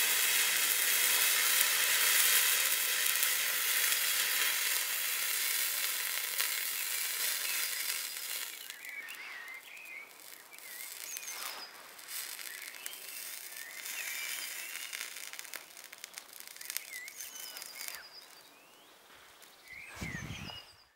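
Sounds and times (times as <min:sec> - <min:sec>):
burning chemical mixture hissing: 0:00.0 - 0:20.6.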